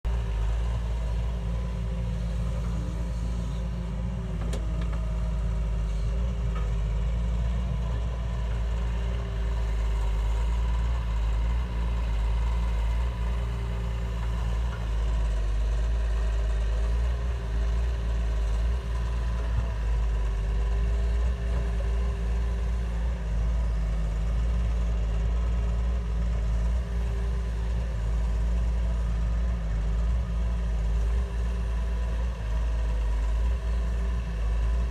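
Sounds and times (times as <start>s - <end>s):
heavy machine engine droning: 0.1s - 34.9s.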